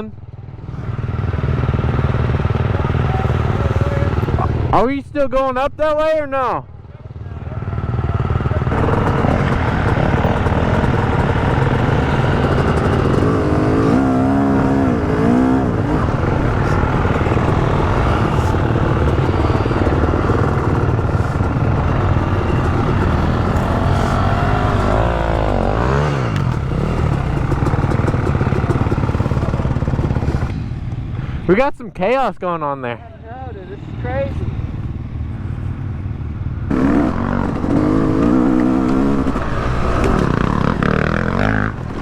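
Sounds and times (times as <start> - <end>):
two-stroke dirt bike engine revving: 0.0 - 4.8, 7.4 - 31.1, 36.6 - 42.0.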